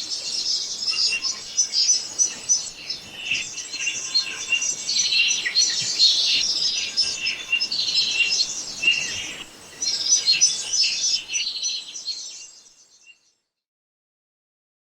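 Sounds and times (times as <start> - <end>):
small birds chirping: 0.0 - 13.3.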